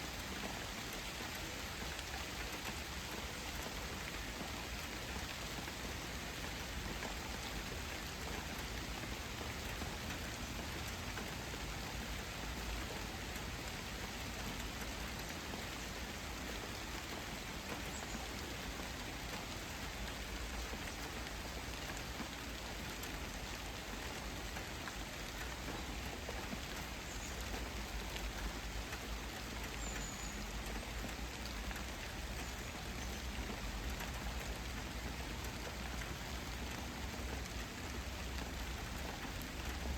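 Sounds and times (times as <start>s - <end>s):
faint ticks of raindrops: 0.0s - 39.9s
steady rain hiss: 0.0s - 39.9s.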